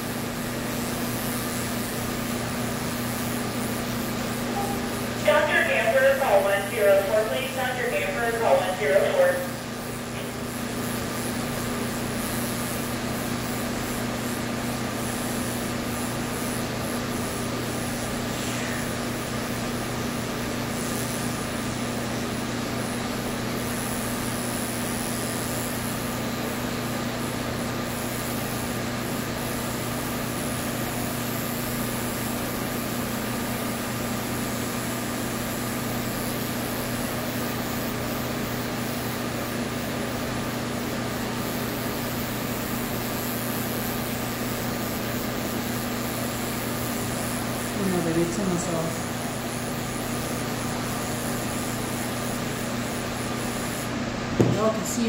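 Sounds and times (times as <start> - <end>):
pet clippers humming: 0.0 - 55.0.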